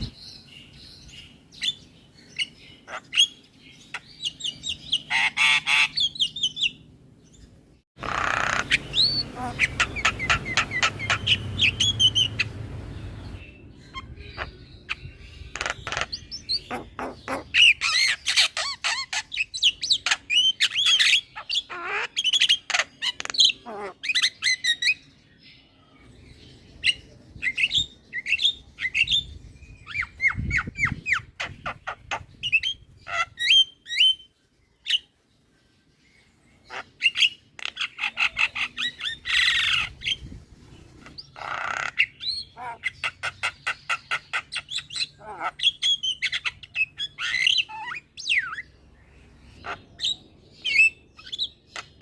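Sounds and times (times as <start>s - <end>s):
birds squawking and chattering: 0.0s - 52.0s.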